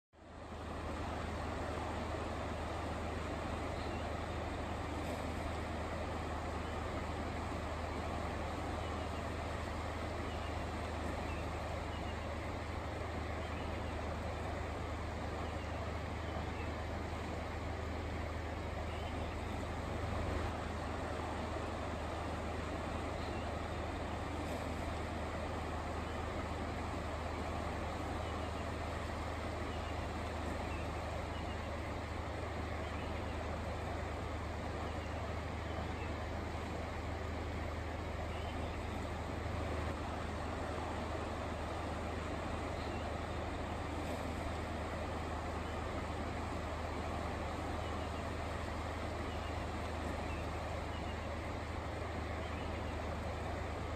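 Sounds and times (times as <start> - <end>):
floodwater rushing: 0.2 - 53.9.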